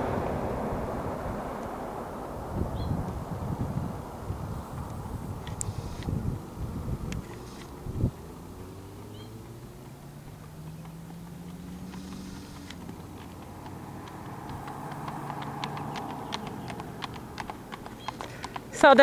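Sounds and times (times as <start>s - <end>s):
approaching car road noise: 0.0s - 19.0s
car traffic hum: 0.0s - 19.0s
hooves clip-clopping on asphalt: 0.0s - 19.0s.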